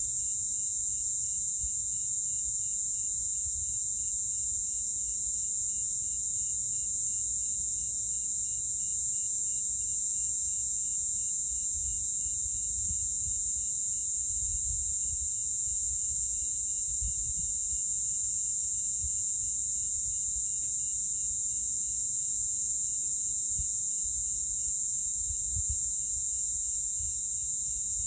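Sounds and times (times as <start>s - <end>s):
cicada chorus drone: 0.0s - 28.0s.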